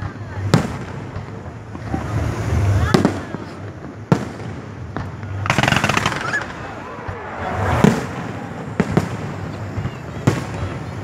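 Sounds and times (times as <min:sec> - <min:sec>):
firework shells bursting: 0:00.0 - 0:11.0
fireworks crackling: 0:00.0 - 0:11.0.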